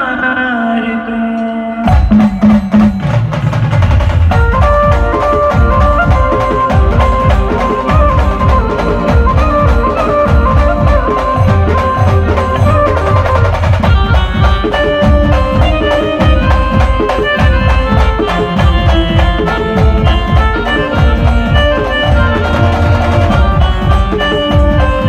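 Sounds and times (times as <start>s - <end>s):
drum strokes: 1.8s - 25.0s
sustained melody notes: 4.3s - 25.0s.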